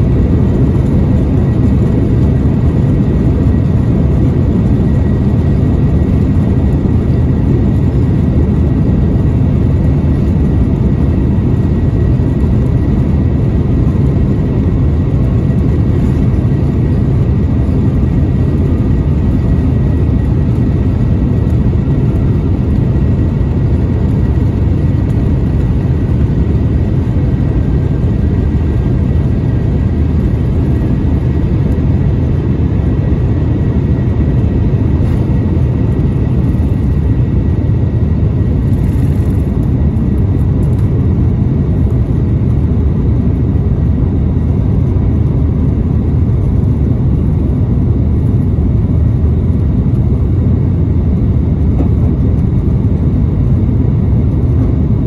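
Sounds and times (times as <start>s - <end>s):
faint high engine whine: 0.0s - 55.0s
jet engines rumbling in cabin: 0.0s - 55.0s.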